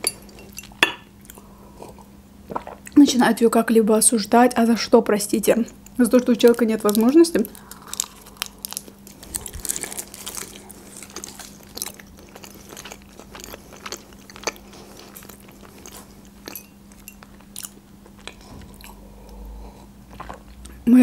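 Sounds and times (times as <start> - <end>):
person chewing: 0.0 - 3.0, 6.9 - 20.8.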